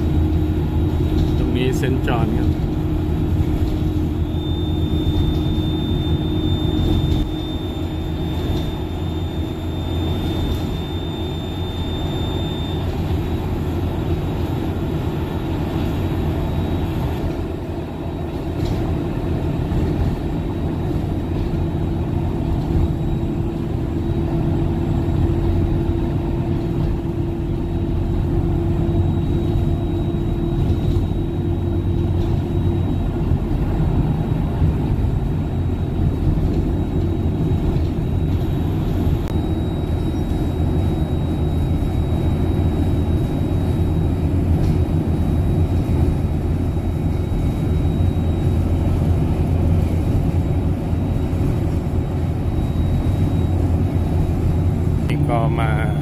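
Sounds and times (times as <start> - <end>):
thin high whine: 0.0 - 18.8, 22.2 - 56.0
bus engine and road noise: 0.0 - 56.0.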